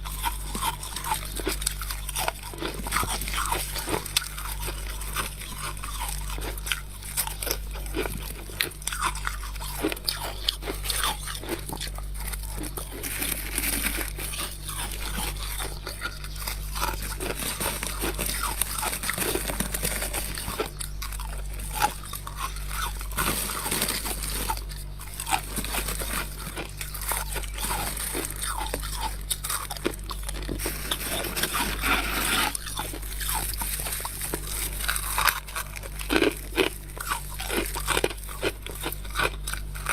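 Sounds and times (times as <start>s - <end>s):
crunching frost: 0.0s - 39.9s.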